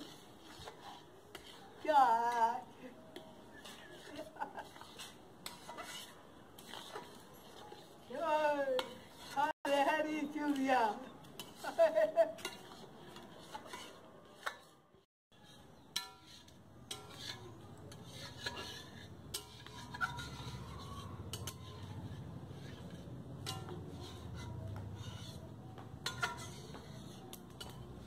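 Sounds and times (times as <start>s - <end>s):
metal ladle scraping pan: 0.0s - 9.6s, 10.6s - 28.0s.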